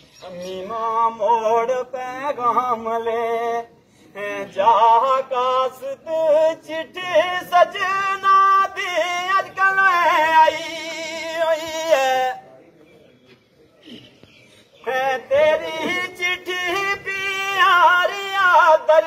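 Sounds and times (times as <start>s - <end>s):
man singing unaccompanied: 0.0s - 12.6s, 14.7s - 19.0s.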